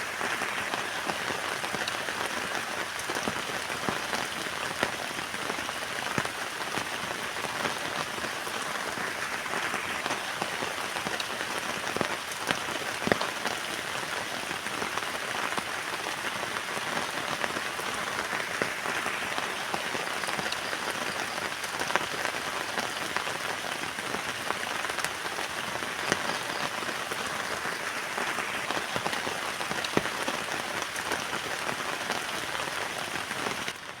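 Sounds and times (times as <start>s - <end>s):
heavy rain on a tent: 0.0s - 34.0s.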